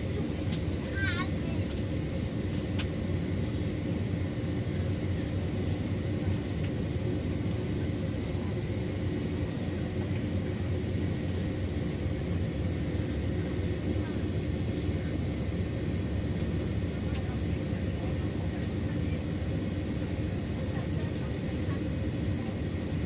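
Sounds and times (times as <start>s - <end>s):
airliner engines rumbling: 0.0s - 23.0s.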